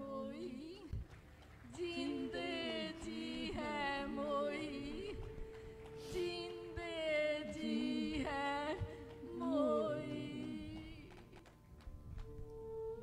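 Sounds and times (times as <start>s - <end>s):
person singing mournful song: 0.0s - 0.8s, 1.8s - 11.4s
held drone note: 1.9s - 13.0s.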